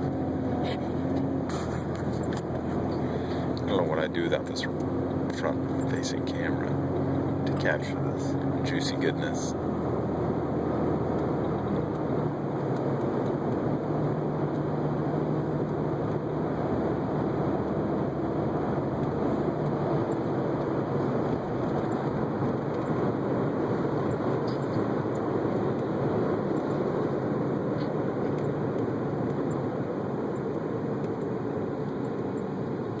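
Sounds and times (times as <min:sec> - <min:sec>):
steady rumbling noise: 0:00.0 - 0:33.0.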